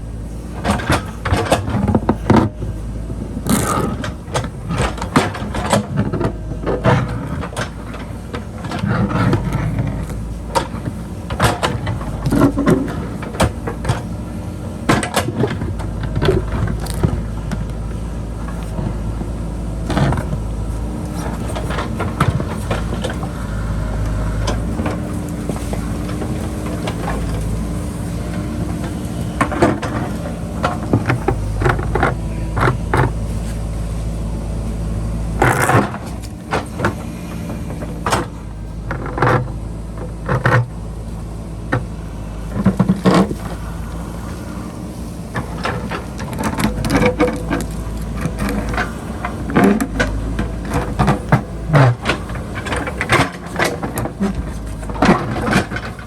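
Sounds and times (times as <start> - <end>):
diesel engine under load: 0.0 - 56.0
bucket clanking and scraping: 0.4 - 56.0.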